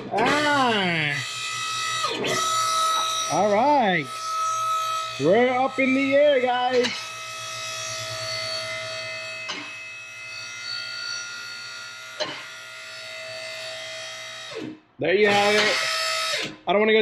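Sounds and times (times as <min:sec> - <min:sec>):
electric pump motor humming: 0:00.0 - 0:16.6.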